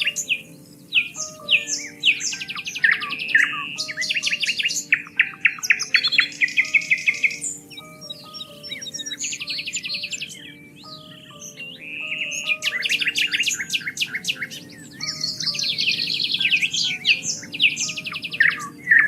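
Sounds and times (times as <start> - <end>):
soft background music low notes: 0.0 - 19.0
songbirds chirping trills: 0.0 - 19.0.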